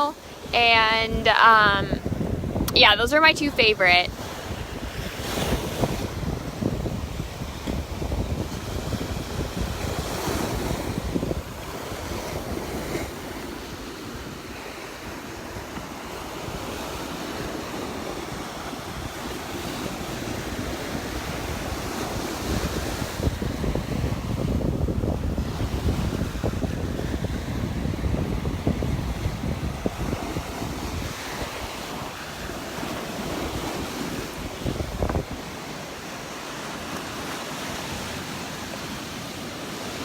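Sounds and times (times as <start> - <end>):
wind buffeting microphone: 0.0 - 3.4, 4.0 - 40.0
ocean surf washing ashore: 0.0 - 40.0.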